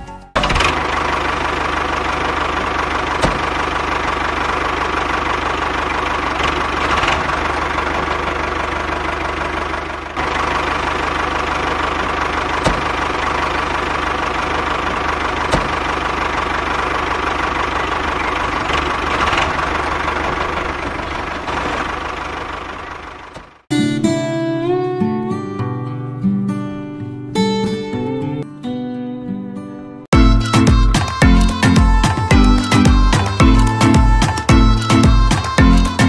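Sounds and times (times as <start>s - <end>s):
small engine droning: 0.4s - 24.9s, 30.1s - 36.0s.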